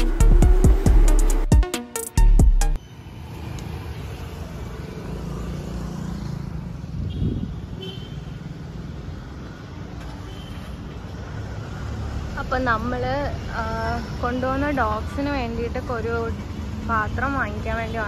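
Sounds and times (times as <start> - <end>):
passing vehicles rumbling: 2.8 - 18.0.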